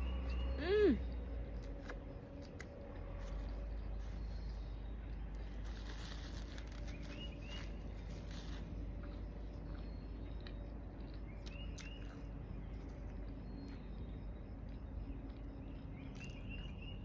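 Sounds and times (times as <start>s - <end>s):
faint bird chirps: 0.0s - 17.0s
steady low hum: 0.0s - 17.0s.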